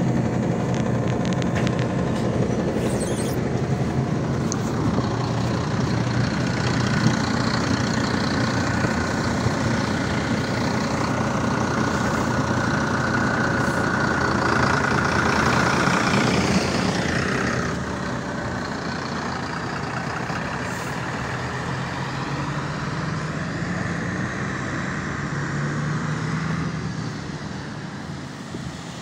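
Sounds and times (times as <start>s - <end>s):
bus engine and road noise: 0.0s - 29.0s.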